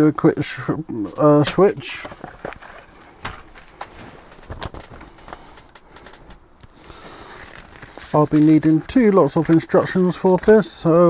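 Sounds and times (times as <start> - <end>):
soft paper rustle: 1.0 - 10.8
small clicks and knocks: 1.5 - 10.6.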